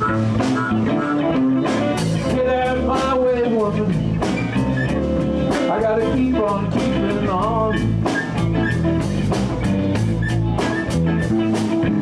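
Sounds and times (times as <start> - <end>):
bass guitar: 0.0 - 12.0
electric guitars: 0.0 - 12.0
steady drum beat: 0.0 - 12.0.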